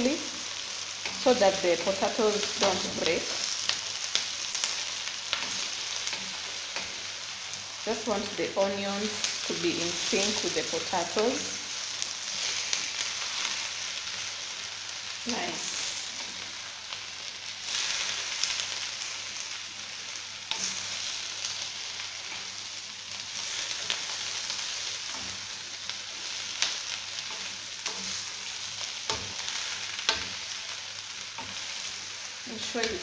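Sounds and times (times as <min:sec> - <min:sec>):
vegetables sizzling in oil: 0:00.0 - 0:33.0.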